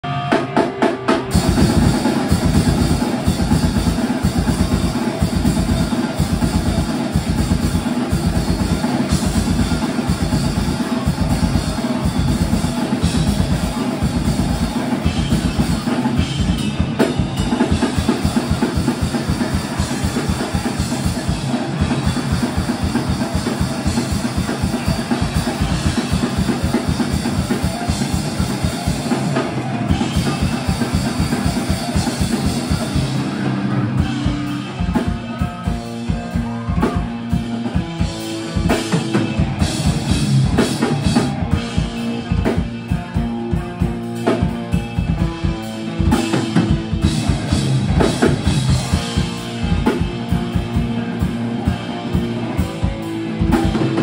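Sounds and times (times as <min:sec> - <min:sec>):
electric guitars: 0:00.0 - 0:54.0
rapid bass drum beats: 0:00.0 - 0:54.0
rock band playing live: 0:00.0 - 0:54.0.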